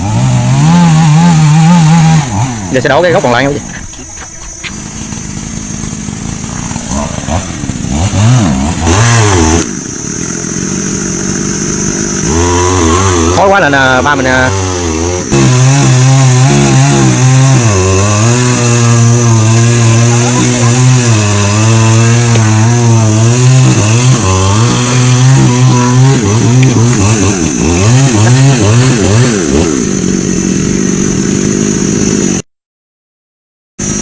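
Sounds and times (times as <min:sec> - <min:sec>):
chainsaw cutting tree trunk: 0:00.0 - 0:32.5, 0:33.8 - 0:34.0.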